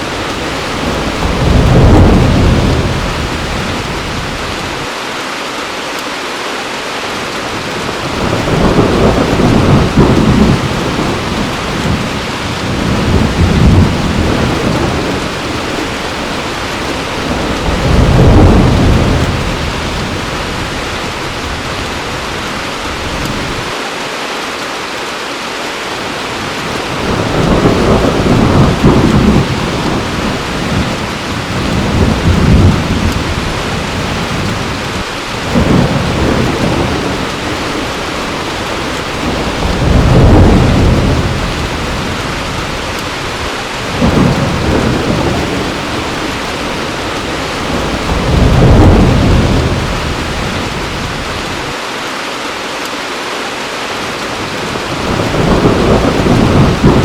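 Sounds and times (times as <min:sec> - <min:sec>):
low rolls of thunder: 0:00.0 - 0:04.9, 0:07.6 - 0:23.8, 0:26.4 - 0:51.7, 0:54.4 - 0:57.0
heavy rain falling: 0:00.0 - 0:57.0.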